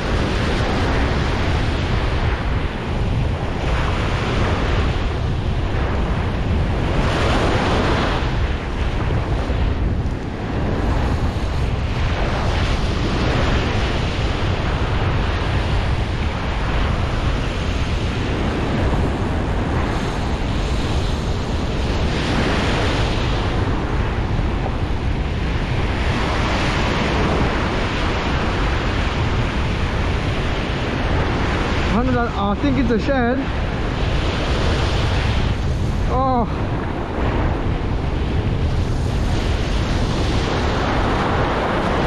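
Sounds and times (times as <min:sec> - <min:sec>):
ocean surf breaking: 0:00.0 - 0:42.0
wind buffeting microphone: 0:00.0 - 0:42.0.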